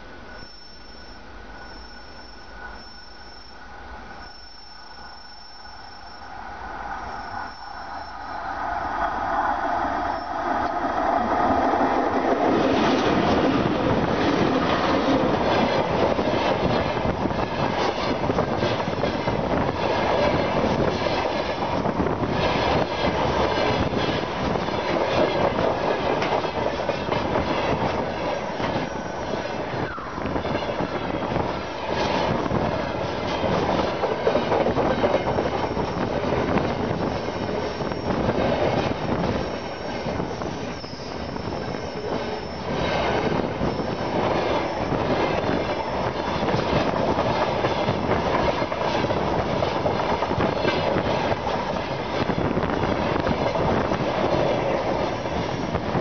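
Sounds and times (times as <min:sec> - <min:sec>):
train wheels rumbling on rails: 0:01.6 - 0:56.0.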